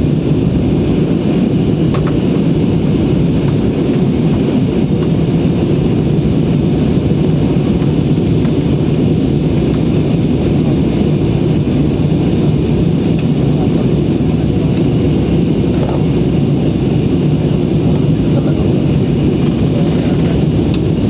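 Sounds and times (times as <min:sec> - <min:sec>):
aeroplane cabin engine and airflow noise: 0:00.0 - 0:21.0.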